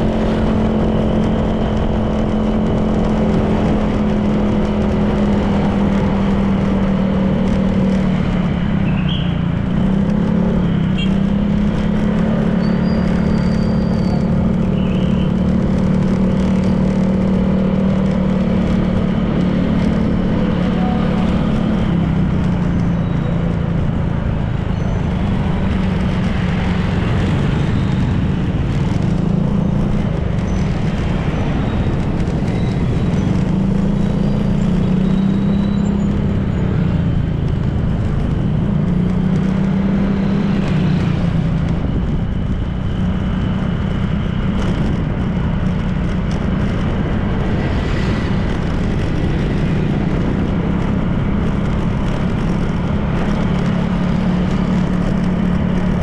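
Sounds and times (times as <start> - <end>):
road and wind noise: 0.0 - 56.0
scooter engine running: 0.0 - 56.0.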